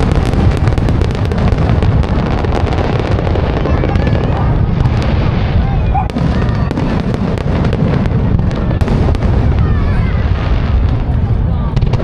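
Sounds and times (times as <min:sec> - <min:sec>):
fireworks bursts rumbling: 0:00.0 - 0:12.0.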